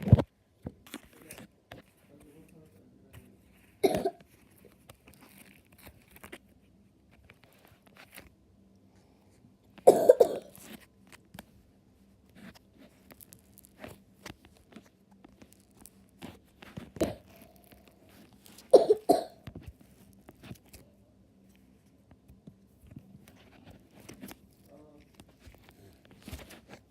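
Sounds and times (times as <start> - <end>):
crackles and clicks of foam beads: 0.0 - 26.9.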